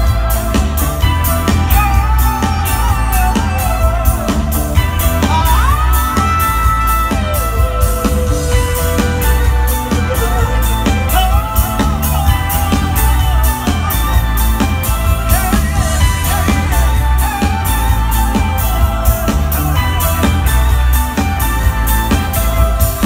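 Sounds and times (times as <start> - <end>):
drum kit beat: 0.0 - 23.0
heavy bass: 0.0 - 23.0
lead voice singing: 0.0 - 23.0.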